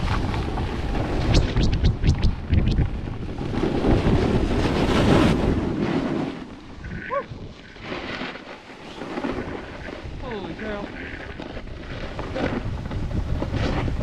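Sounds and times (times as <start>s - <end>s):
snowboard sliding over snow: 0.0s - 14.0s
wind on microphone: 0.0s - 14.0s.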